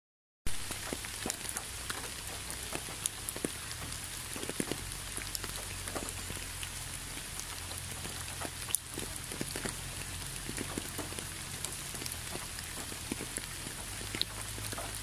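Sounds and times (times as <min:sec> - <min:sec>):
raindrops ticking close by: 0:00.5 - 0:15.0
steady rain hiss: 0:00.5 - 0:15.0.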